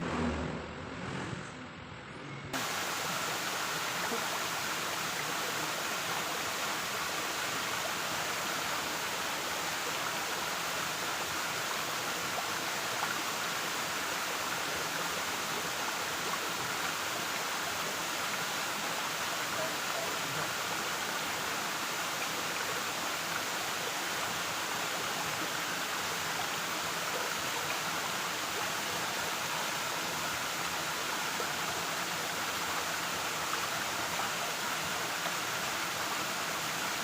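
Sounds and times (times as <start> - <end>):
waterfall rushing: 2.6 - 37.0.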